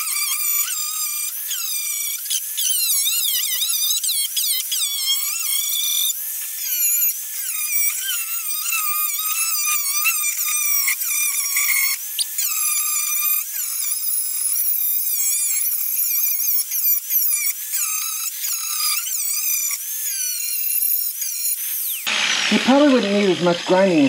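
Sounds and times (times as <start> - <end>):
electric grinder whining on metal: 0.0 - 24.0.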